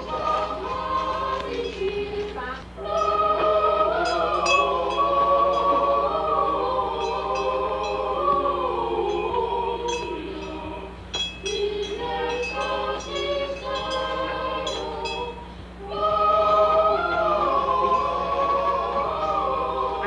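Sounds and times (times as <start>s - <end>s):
choir singing a carol: 0.0s - 20.0s
steady low hum: 0.0s - 20.0s.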